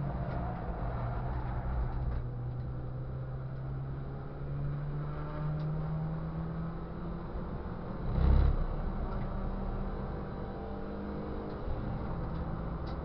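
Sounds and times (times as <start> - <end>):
race car engine: 0.0 - 13.0
road and wind noise: 0.0 - 13.0.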